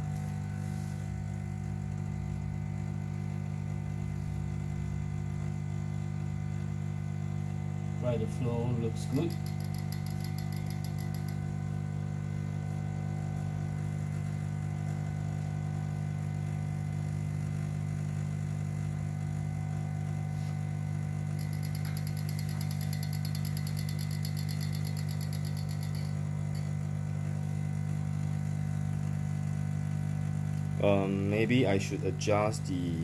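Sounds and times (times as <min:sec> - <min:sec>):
espresso machine pump humming: 0:00.0 - 0:33.0.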